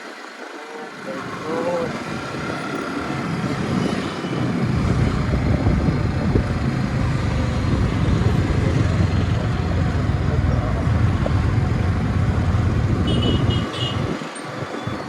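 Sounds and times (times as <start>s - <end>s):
motorcycle engine: 1.2s - 15.0s
wind buffeting microphone: 1.2s - 15.0s.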